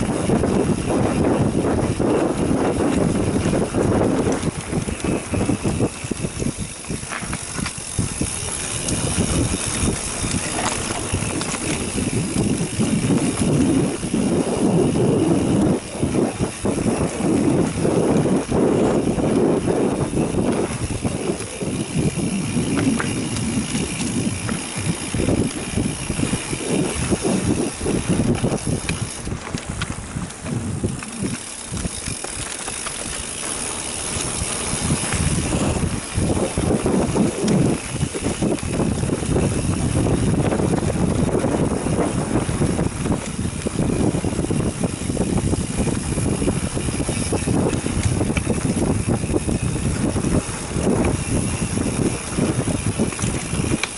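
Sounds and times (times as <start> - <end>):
bike rattling over bumpy ground: 0.0 - 53.9.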